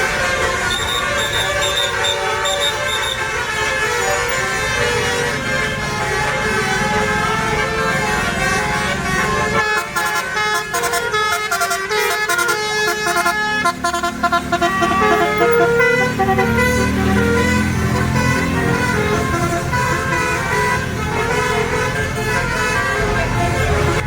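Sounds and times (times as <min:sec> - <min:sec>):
bus engine rumble: 0:00.0 - 0:24.0
multi-tone air horn melody: 0:00.0 - 0:24.0.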